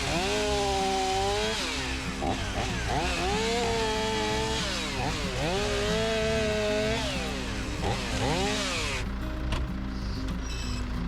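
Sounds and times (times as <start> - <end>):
chainsaw cutting wood: 0.0 - 9.7
background music with bass: 0.0 - 11.0.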